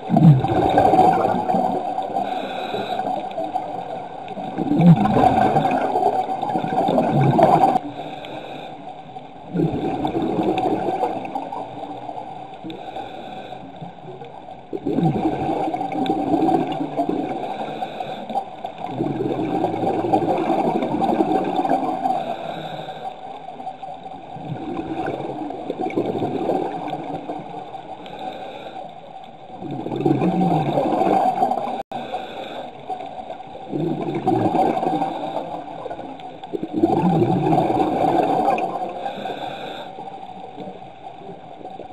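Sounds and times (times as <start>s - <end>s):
faint steady hum: 0.0s - 41.9s
underwater bubbles gurgling: 0.0s - 41.9s.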